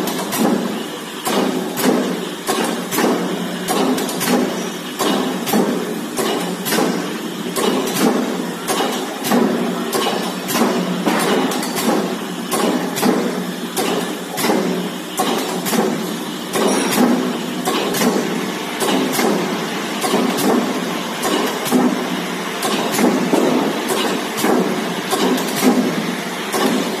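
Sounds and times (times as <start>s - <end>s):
mechanical press running: 0.0s - 27.0s
sharp clicks and knocks: 1.2s - 7.0s, 7.6s - 18.2s, 18.8s - 19.4s, 20.0s - 22.0s, 22.6s - 25.9s, 26.5s - 27.0s.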